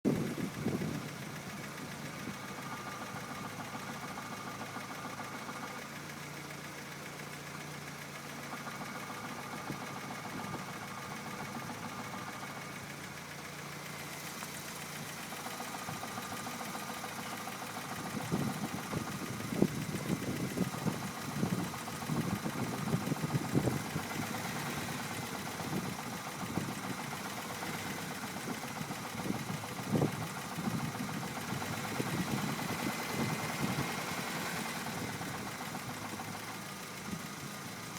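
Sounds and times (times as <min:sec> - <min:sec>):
car engine idling: 0:00.1 - 0:37.9.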